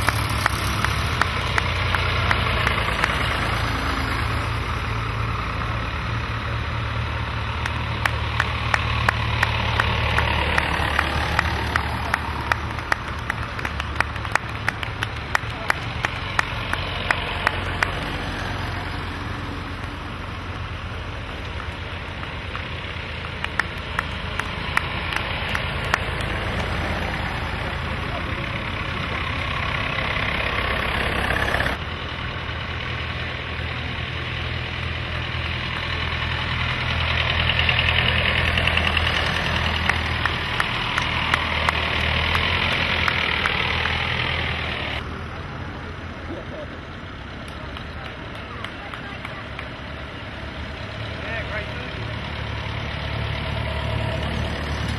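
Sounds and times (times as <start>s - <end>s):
tractor engines running: 0.0s - 54.9s.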